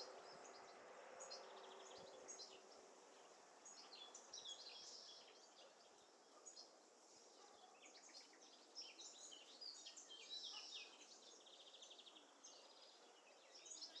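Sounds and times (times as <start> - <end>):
soft outdoor hiss: 0.0 - 14.0
songbirds singing: 0.0 - 14.0.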